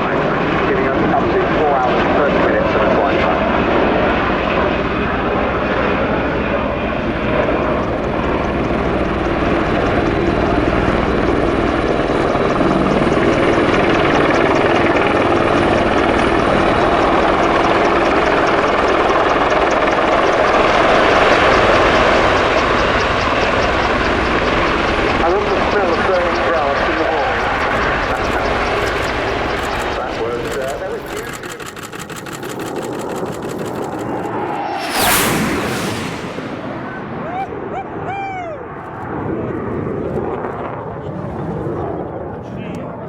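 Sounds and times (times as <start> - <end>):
helicopter rotor drone: 0.0 - 36.5.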